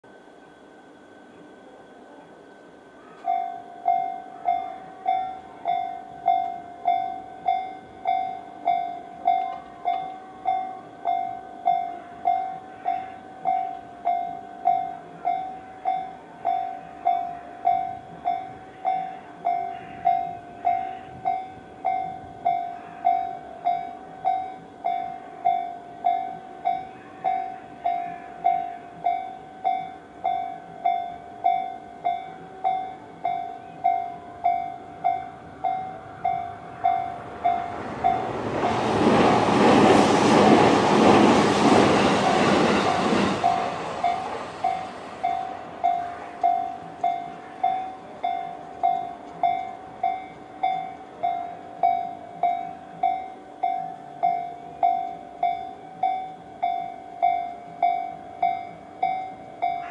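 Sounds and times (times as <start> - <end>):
level crossing warning bell: 0.2 - 59.9.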